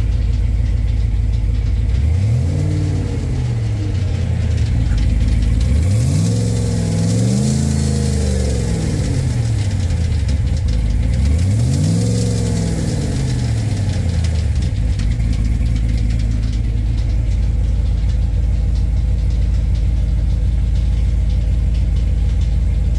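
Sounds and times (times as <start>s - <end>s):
engine revving and idling: 0.0s - 22.9s.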